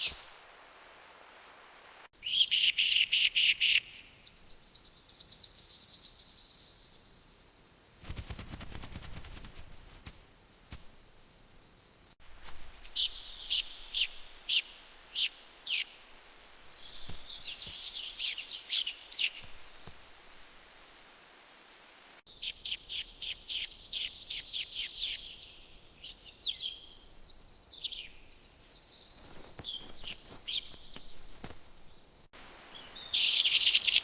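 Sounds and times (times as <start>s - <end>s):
wild birds chirping: 2.2s - 12.2s, 12.8s - 20.8s, 22.3s - 34.0s.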